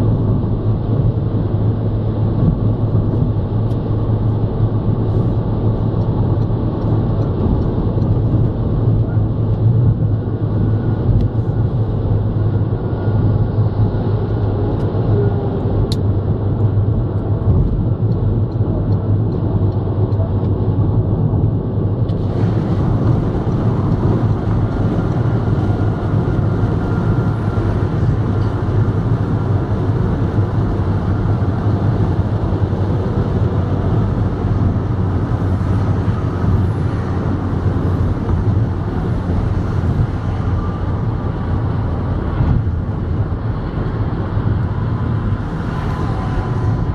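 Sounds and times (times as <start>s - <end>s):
car engine drone: 0.0s - 46.9s.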